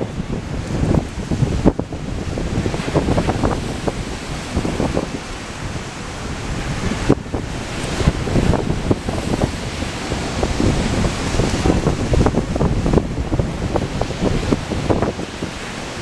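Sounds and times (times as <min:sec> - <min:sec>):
passenger train rumbling: 0:00.0 - 0:16.0
wind buffeting microphone: 0:00.0 - 0:16.0.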